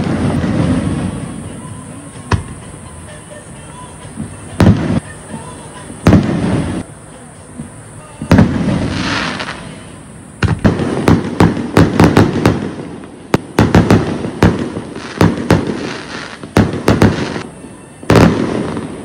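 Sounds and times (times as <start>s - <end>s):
fireworks bangs with crackle: 0.0s - 19.0s.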